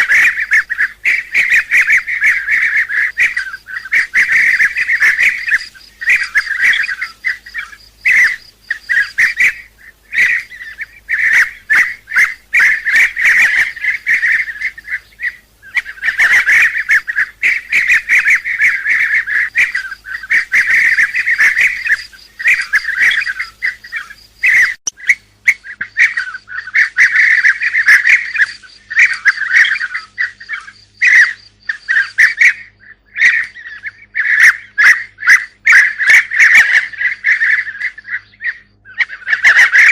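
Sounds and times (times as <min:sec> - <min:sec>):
bee-eater flock chirping: 0:00.0 - 0:39.9.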